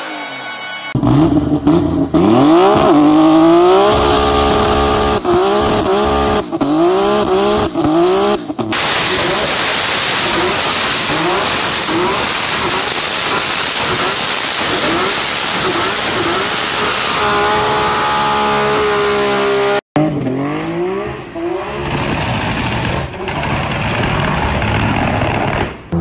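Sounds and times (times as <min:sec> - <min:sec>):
car engine revving: 0:00.9 - 0:26.0.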